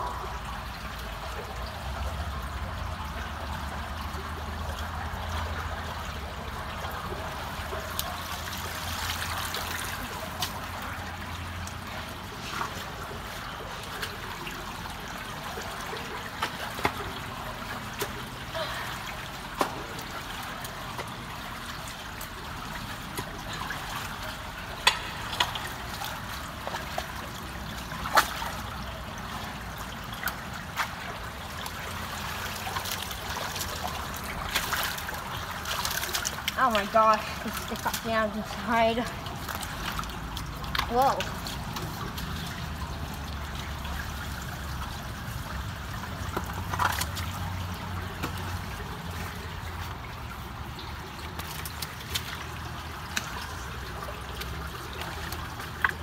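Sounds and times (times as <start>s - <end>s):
water trickling through culvert: 0.0s - 56.0s.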